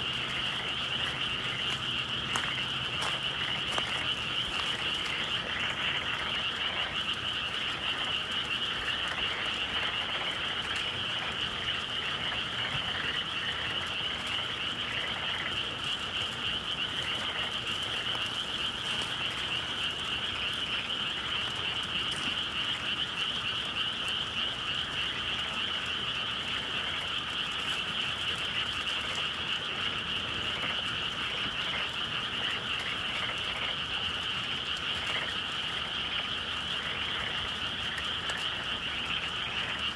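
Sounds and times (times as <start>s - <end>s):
frogs trilling: 0.0s - 39.9s.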